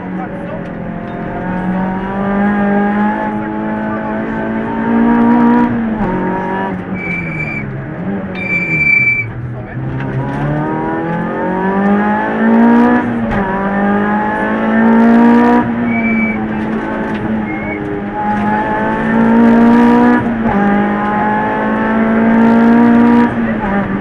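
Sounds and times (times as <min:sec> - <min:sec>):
rally car engine pulling hard: 0:00.0 - 0:24.0.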